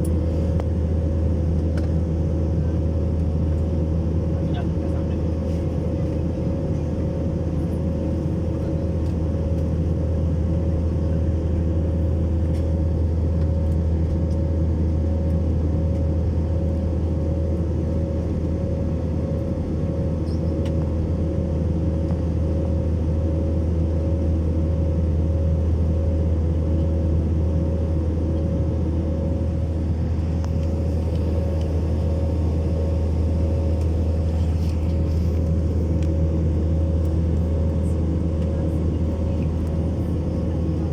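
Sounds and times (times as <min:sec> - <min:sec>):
constant hum: 0:00.0 - 0:40.9
low engine drone: 0:00.0 - 0:40.9.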